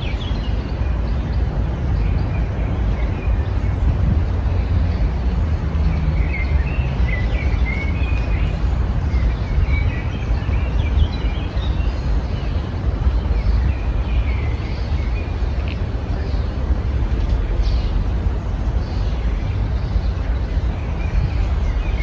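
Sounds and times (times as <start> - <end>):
small songbirds chirping: 0.0 - 22.0.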